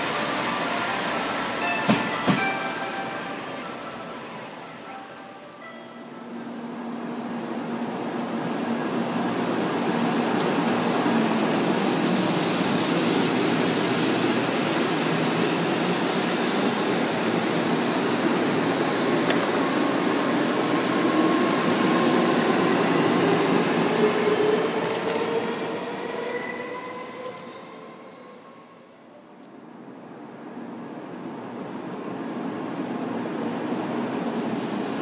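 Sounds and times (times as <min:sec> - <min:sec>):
train rushing past: 0:00.0 - 0:29.1.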